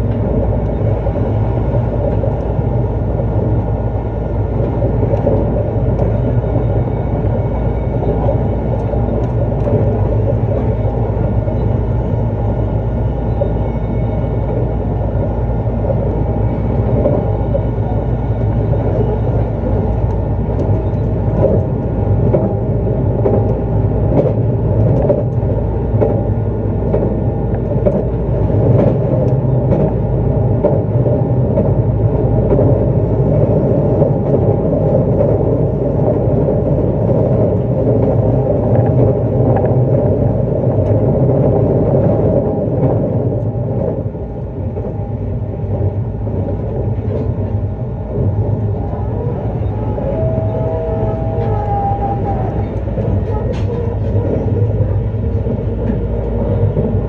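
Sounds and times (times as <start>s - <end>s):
electric train running rumble: 0.0s - 57.0s.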